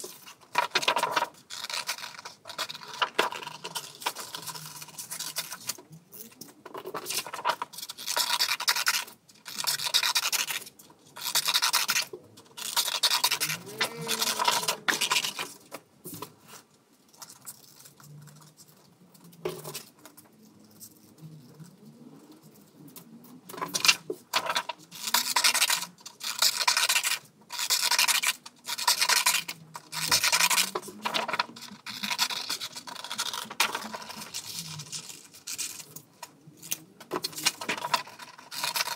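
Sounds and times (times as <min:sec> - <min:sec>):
scissors cutting paper: 0:00.0 - 0:15.6, 0:22.4 - 0:38.9.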